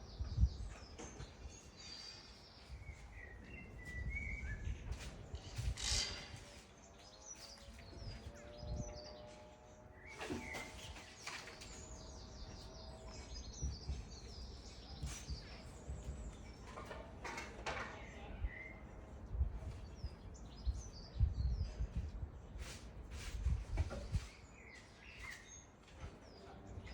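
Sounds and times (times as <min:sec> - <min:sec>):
small birds chirping and trilling: 0:00.0 - 0:26.9.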